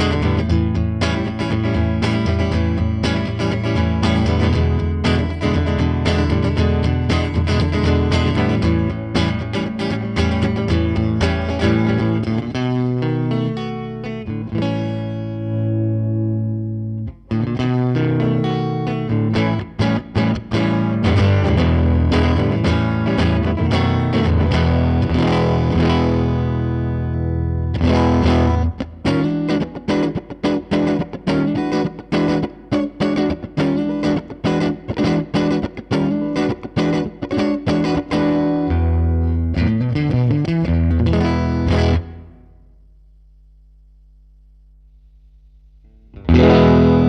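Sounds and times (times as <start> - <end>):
distorted electric guitar: 0.0 - 43.3, 44.7 - 47.0
faint amp hum: 0.0 - 47.0.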